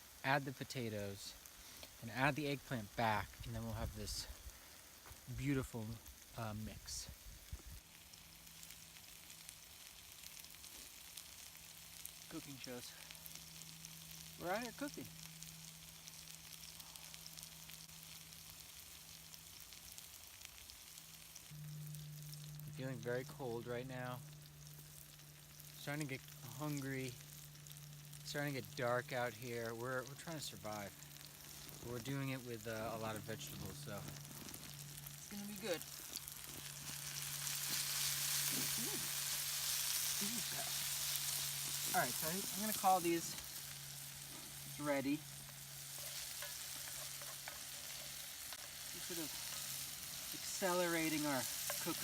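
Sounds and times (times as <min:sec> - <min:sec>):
campfire crackles: 0:00.0 - 0:52.0
constant low hum: 0:00.0 - 0:52.0
eggplant sizzling in a pan: 0:00.0 - 0:52.0.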